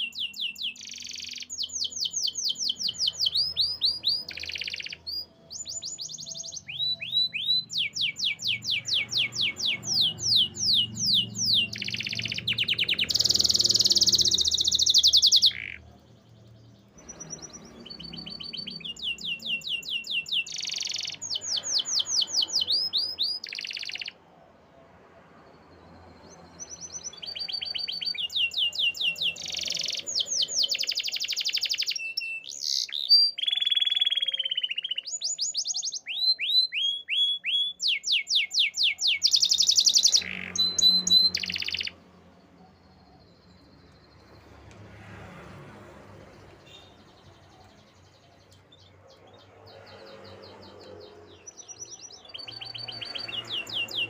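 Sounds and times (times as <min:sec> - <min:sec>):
canary trilling: 0:00.0 - 0:24.2, 0:26.2 - 0:44.2, 0:46.5 - 0:54.0.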